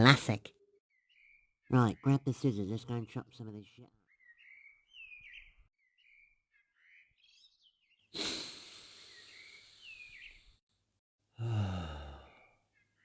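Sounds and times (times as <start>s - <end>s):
small birds chirping: 0.0s - 10.6s, 11.6s - 13.0s.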